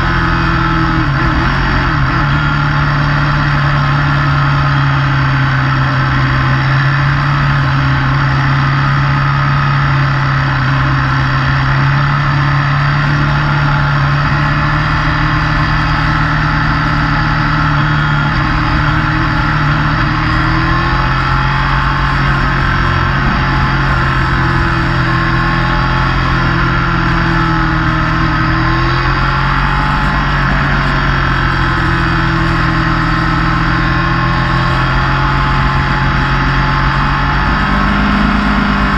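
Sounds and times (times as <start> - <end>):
motorcycle engine cruising: 0.0 - 38.9
road and wind noise: 0.0 - 38.9.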